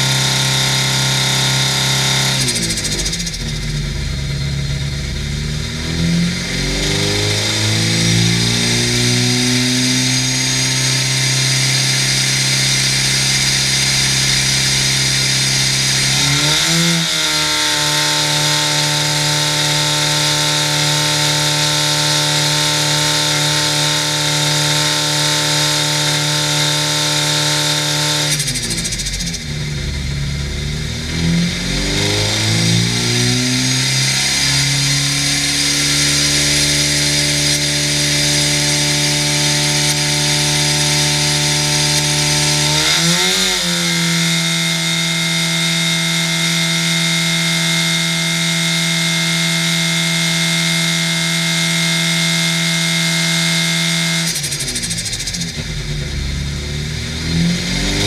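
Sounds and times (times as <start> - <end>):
engine running under load: 0.0 - 58.0.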